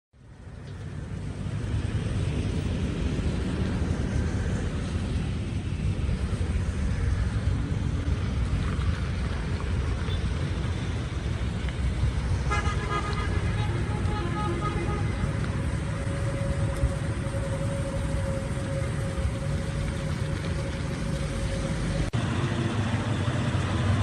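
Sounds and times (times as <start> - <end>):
heavy engine running: 0.2 - 24.0.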